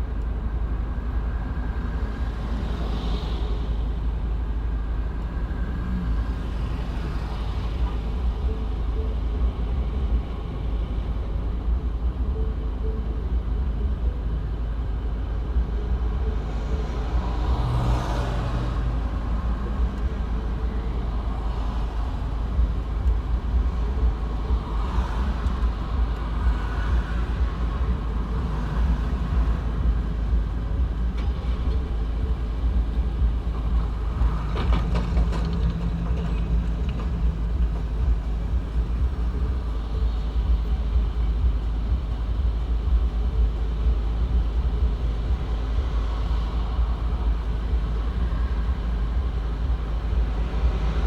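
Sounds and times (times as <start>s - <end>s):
road traffic rumble: 0.0s - 51.0s.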